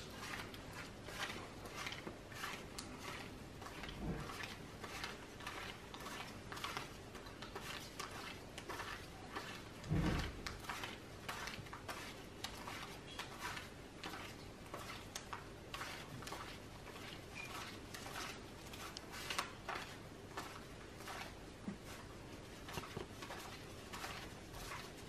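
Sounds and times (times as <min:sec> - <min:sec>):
banknotes rustling while counted: 0:00.0 - 0:25.0.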